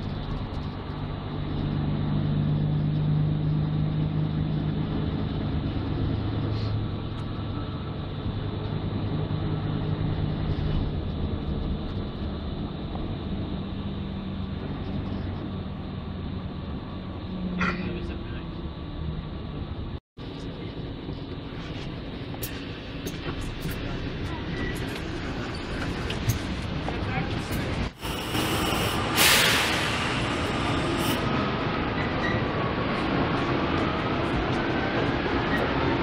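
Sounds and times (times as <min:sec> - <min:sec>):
bus engine and road drone: 0:00.0 - 0:36.0.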